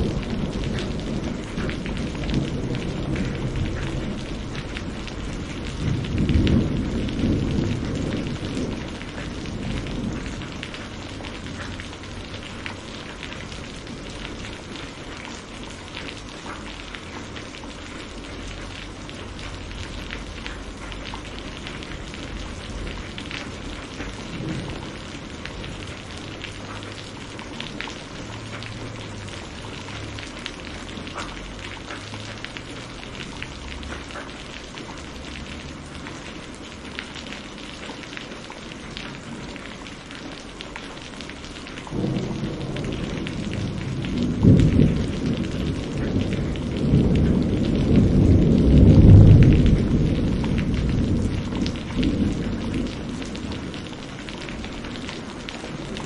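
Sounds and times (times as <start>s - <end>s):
rain falling on foliage: 0.0s - 56.0s
raindrops tapping close by: 0.0s - 56.0s.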